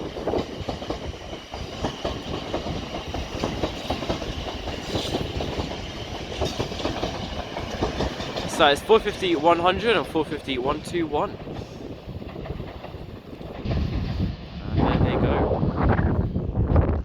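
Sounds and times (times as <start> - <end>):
wheels clicking over rail joints: 0.0 - 14.5
train running rumble: 0.0 - 17.0.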